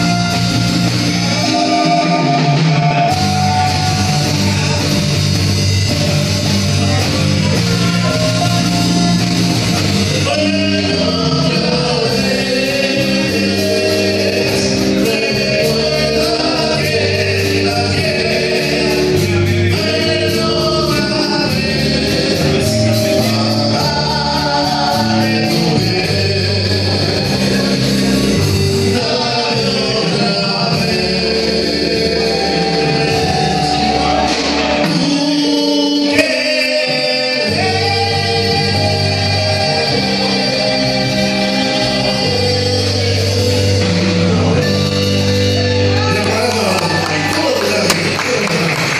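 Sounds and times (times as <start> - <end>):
live band playing with singing: 0.0 - 48.9.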